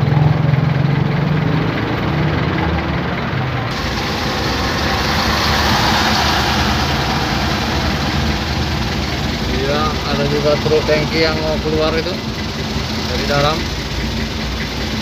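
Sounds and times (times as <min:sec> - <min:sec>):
traffic jam engines idling: 0:00.0 - 0:15.0.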